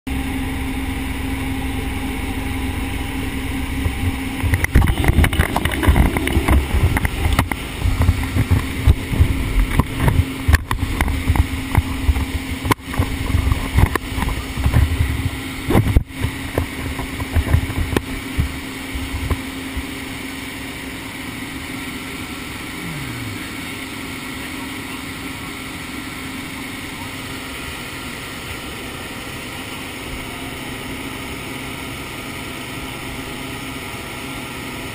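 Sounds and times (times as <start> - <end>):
plane engine droning: 0.1 - 34.9.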